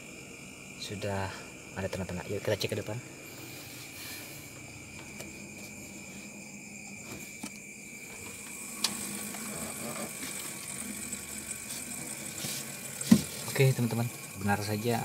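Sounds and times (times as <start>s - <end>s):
freezer compressor humming: 0.0s - 15.0s.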